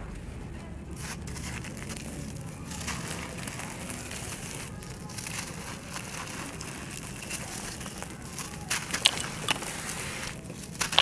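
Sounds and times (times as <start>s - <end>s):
crumbs trickling onto a heap: 0.9s - 11.0s
clay crushed by hand crackling: 1.0s - 11.0s.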